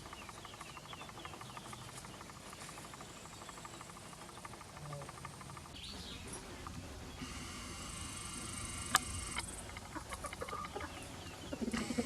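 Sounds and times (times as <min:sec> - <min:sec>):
rapid animal trill: 0:00.0 - 0:12.0.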